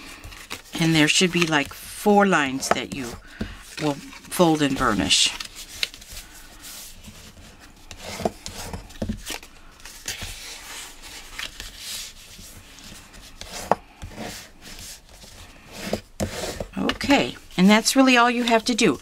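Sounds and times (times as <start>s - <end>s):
paper rustling and rubbing: 0.0s - 19.0s.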